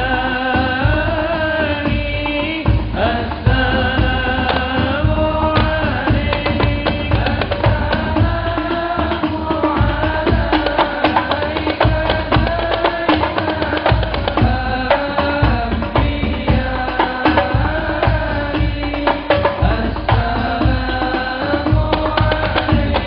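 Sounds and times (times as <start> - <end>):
man singing devotional melody: 0.0 - 23.0.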